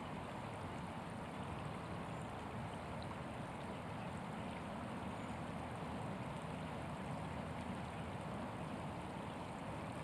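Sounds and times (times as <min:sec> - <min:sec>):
creek flowing over riffle: 0:00.0 - 0:10.0.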